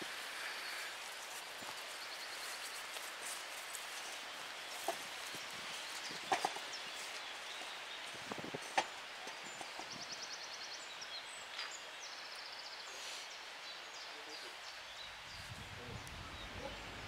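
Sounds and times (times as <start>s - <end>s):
distant birdsong: 0.0s - 17.0s.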